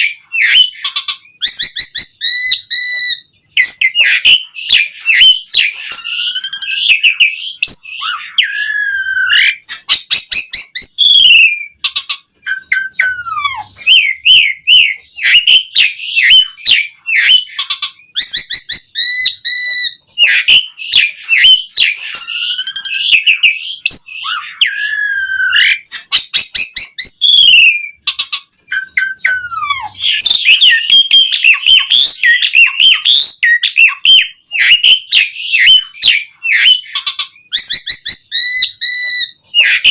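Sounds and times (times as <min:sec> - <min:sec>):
starling singing whistles and trills: 0:00.0 - 0:39.9.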